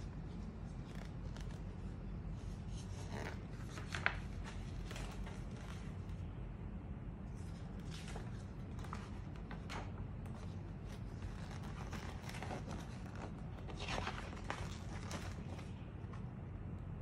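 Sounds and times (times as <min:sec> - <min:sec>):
paper pages rustling: 0:00.0 - 0:06.4, 0:07.3 - 0:16.4
low steady hum: 0:00.0 - 0:17.0.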